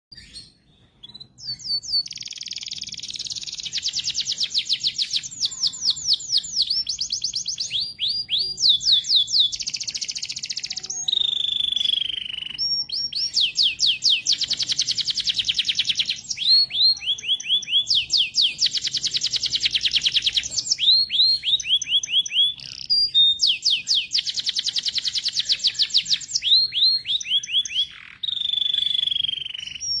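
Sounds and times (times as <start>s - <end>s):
canary singing: 0.1s - 30.0s.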